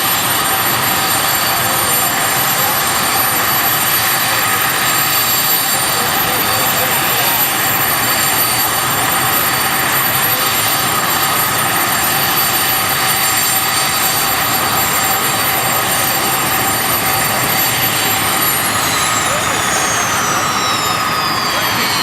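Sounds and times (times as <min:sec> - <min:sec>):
helicopter engines running: 0:00.0 - 0:22.0
high-pitched turbine whines: 0:00.0 - 0:22.0.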